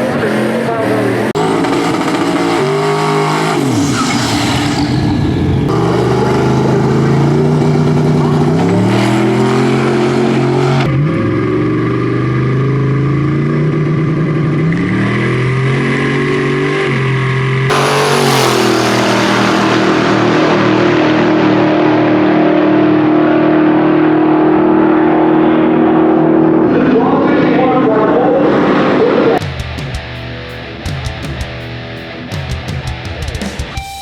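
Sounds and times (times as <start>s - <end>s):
truck engine at full throttle: 0.0s - 33.8s.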